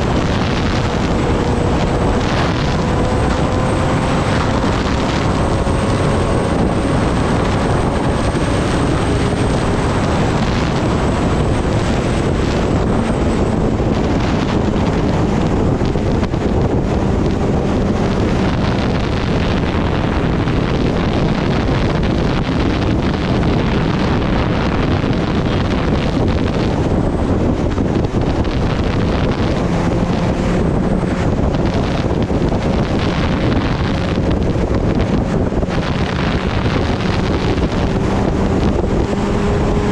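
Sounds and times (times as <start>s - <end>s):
motorcycle engine running: 0.0s - 39.9s
wind roaring over microphone: 0.0s - 39.9s.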